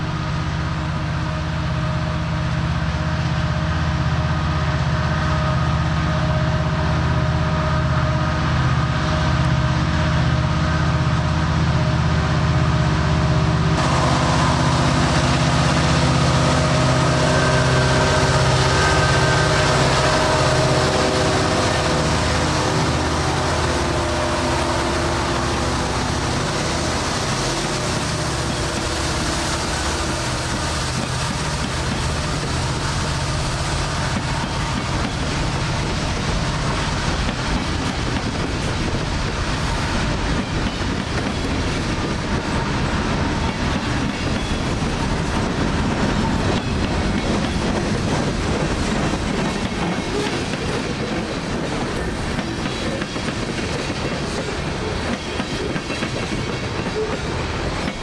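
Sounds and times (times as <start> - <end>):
diesel locomotive engines: 0.0 - 58.0
train rolling by: 0.0 - 58.0.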